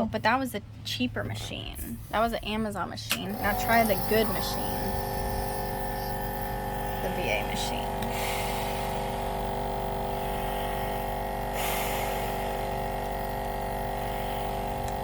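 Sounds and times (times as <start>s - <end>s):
nebulizer compressor humming: 1.8s - 15.0s.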